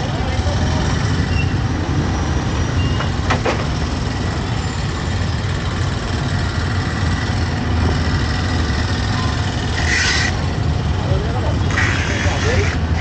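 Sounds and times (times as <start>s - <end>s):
vehicle engines in traffic: 0.0s - 13.0s.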